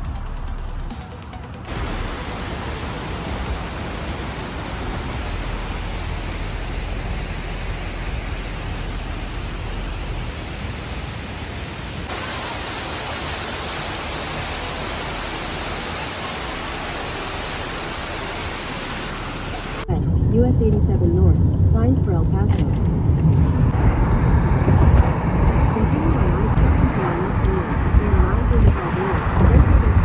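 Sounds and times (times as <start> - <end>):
car road and wind noise: 1.7 - 30.0.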